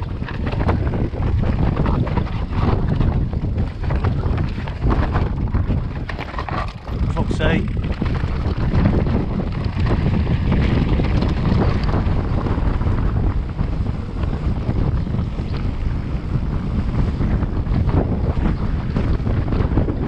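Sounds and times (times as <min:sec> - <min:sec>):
bike rattling over rocky track: 0:00.0 - 0:20.0
wind buffeting microphone: 0:00.0 - 0:20.0.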